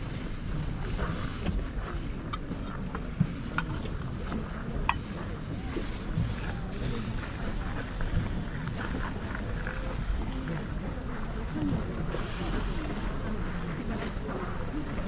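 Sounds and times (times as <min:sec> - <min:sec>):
faint background voices: 0:00.0 - 0:15.0
wind rumbling on microphone: 0:00.0 - 0:15.0.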